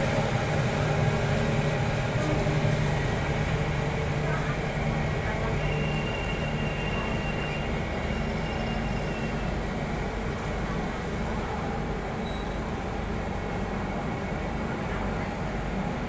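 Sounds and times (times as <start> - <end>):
train coaches rumbling on rails: 0.0 - 16.0.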